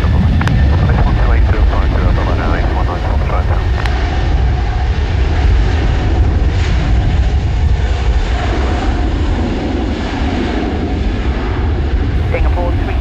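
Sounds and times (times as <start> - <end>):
jet engines running: 0.0 - 13.0
wind buffeting on microphone: 0.0 - 13.0.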